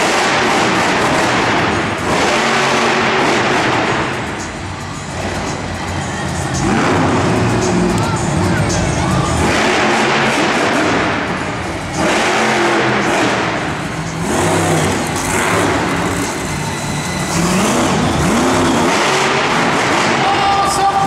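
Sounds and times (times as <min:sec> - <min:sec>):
truck engine revving hard: 0:00.0 - 0:20.7.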